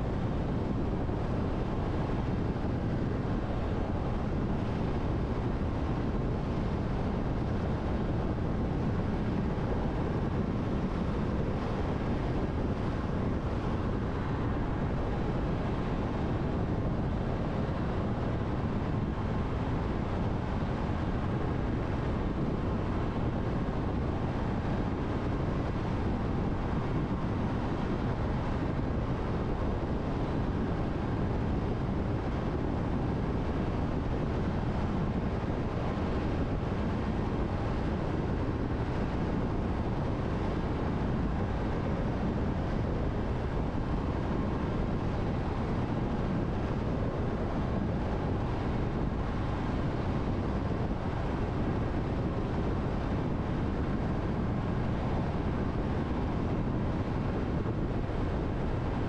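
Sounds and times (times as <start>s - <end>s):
car tyre and wind rumble: 0.0s - 59.0s.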